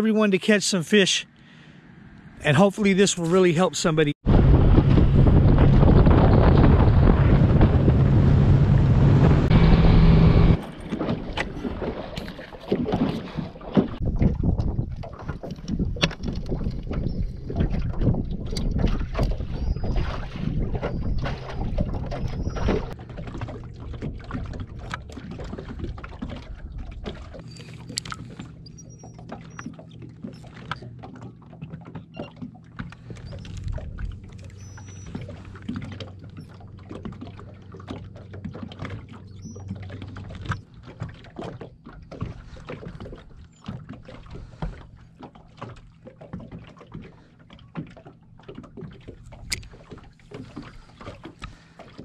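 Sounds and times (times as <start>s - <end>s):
waves slapping against hull: 3.4s - 52.0s.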